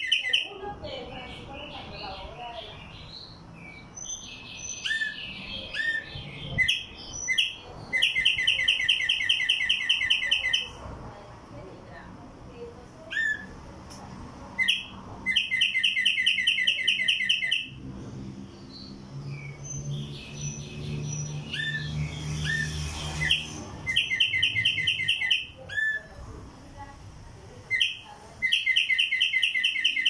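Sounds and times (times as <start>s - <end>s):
songbird singing: 0.0s - 10.8s, 13.0s - 13.6s, 14.5s - 17.8s, 18.4s - 26.3s, 27.7s - 30.0s.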